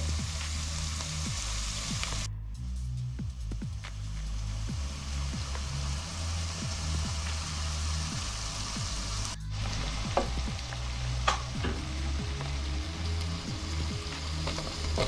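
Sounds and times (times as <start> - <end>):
vegetables sizzling in oil: 0.0 - 2.3, 3.8 - 15.0
low steady notes: 0.0 - 15.0.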